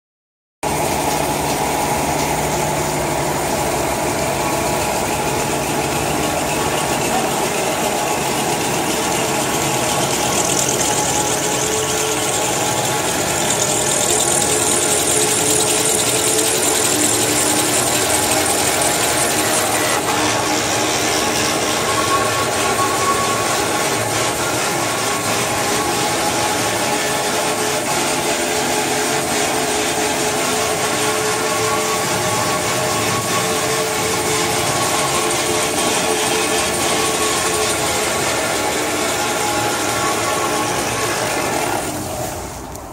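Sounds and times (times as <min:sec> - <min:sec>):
machine whir and hum: 0:00.6 - 0:42.9.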